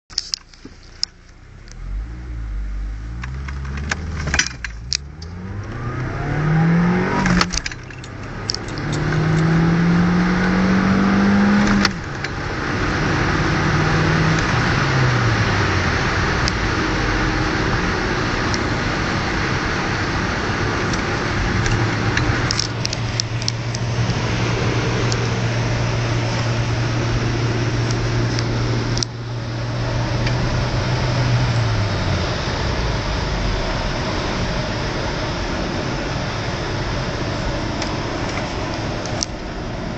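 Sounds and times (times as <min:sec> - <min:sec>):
wind and road noise: 0:00.1 - 0:39.9
car engine accelerating hard: 0:01.3 - 0:39.9.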